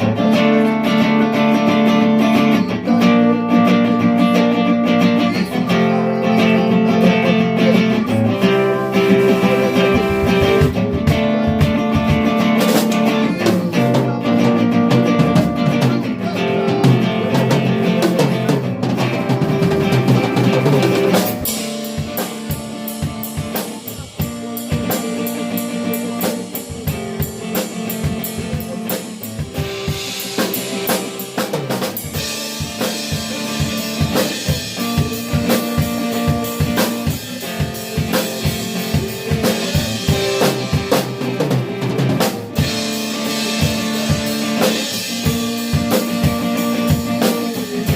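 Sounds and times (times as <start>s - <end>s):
drum kit beat: 0.0s - 47.9s
guitar: 0.0s - 47.9s
live band playing instrumental music: 0.0s - 47.9s.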